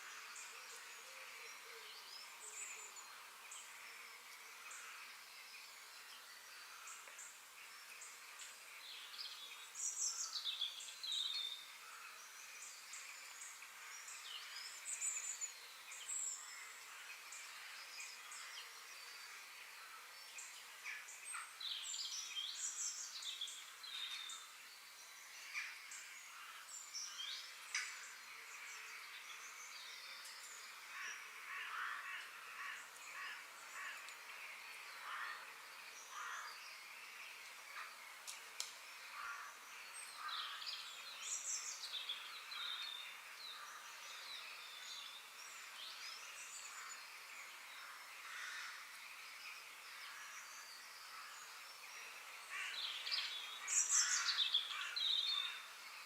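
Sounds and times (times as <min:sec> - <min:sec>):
steady outdoor hiss: 0:00.0 - 0:56.0
wild birds singing and calling: 0:00.0 - 0:56.0.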